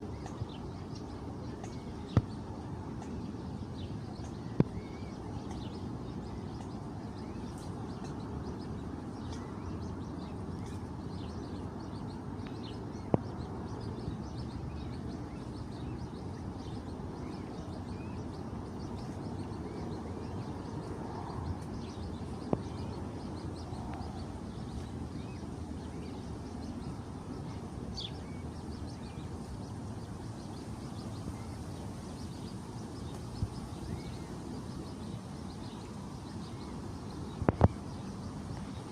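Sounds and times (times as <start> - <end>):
birds chirping: 0.0 - 38.9
steady low background noise: 0.0 - 38.9.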